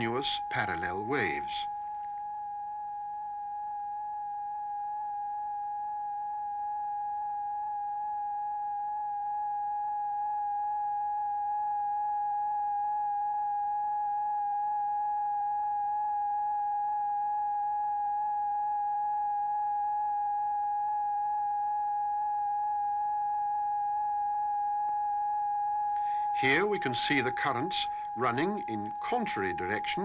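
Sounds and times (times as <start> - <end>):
steady pure tone: 0.0 - 10.8, 16.2 - 30.0.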